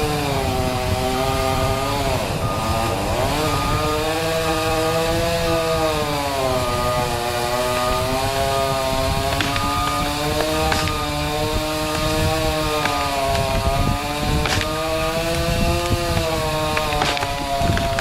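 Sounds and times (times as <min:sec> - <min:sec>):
chainsaw cutting branches: 0:00.0 - 0:18.0.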